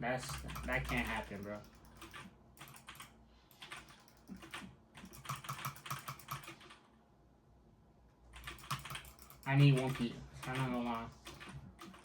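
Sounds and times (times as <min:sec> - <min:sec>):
typing on computer keyboard: 0:00.2 - 0:06.8, 0:08.3 - 0:12.0.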